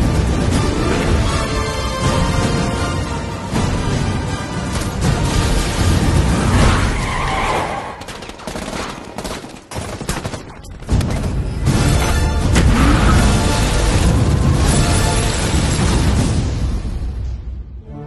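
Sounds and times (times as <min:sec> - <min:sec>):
action trailer music: 0:00.0 - 0:08.3, 0:10.6 - 0:18.0.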